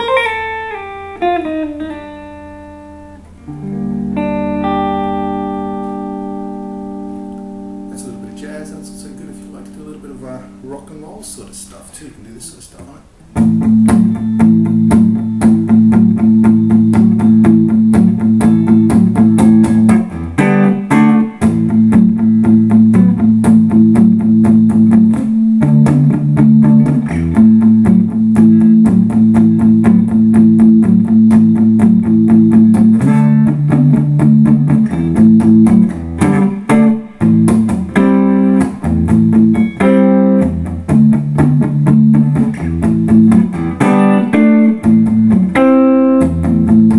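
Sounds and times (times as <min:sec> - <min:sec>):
clean electric guitar riff: 0:00.0 - 0:11.8, 0:13.0 - 0:46.9.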